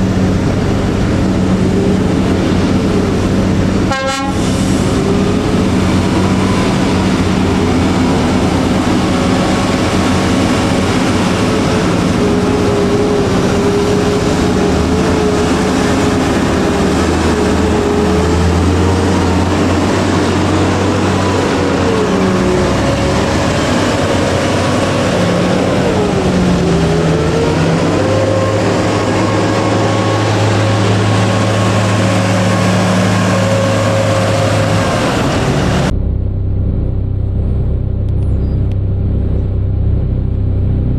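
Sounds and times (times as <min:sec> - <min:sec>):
excavator diesel engine and hydraulics: 0:00.0 - 0:40.9.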